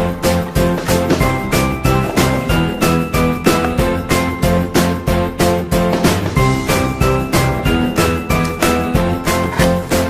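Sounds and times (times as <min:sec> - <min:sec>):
upbeat music with plucked notes: 0:00.0 - 0:10.0.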